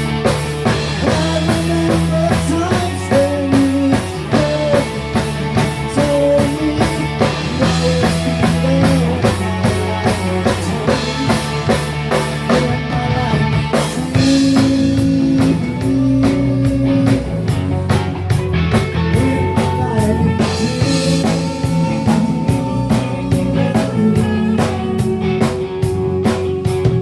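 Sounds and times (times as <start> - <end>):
drum kit beat: 0.0 - 27.0
rock band playing: 0.0 - 27.0.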